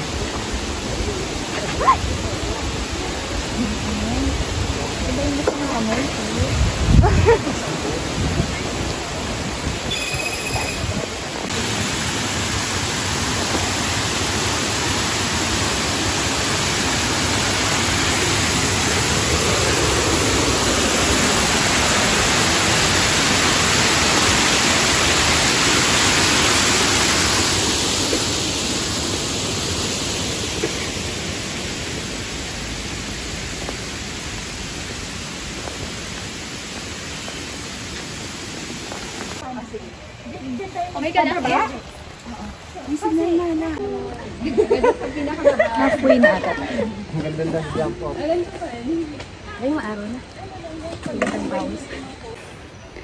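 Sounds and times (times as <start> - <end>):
stream water rushing over rocks: 0.0 - 44.4.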